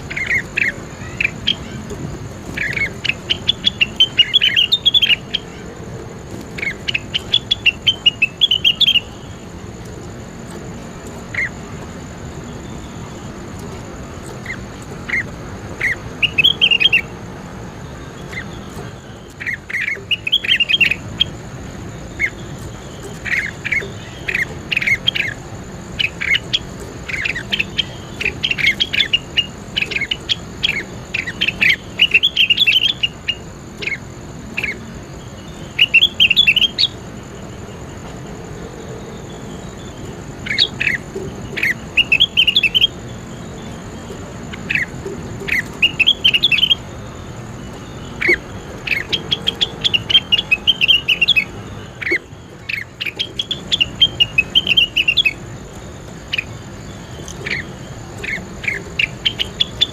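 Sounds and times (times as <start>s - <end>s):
faint high-pitched whine: 0.0s - 59.9s
songbird squawky chirps: 0.0s - 59.9s.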